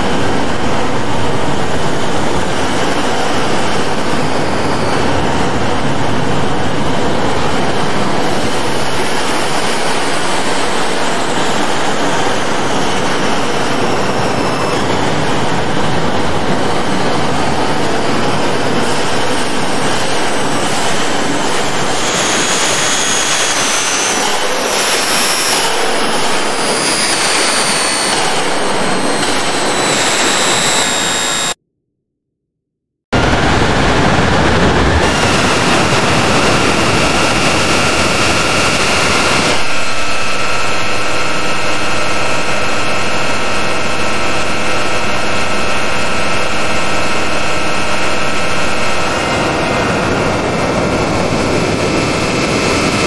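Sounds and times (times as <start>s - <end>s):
wind noise: 0.0s - 31.5s, 33.1s - 53.0s.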